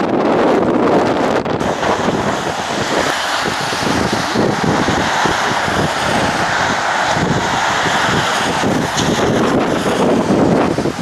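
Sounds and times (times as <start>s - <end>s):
surf breaking against seawall: 0.0s - 11.0s
wind buffeting microphone: 0.0s - 11.0s.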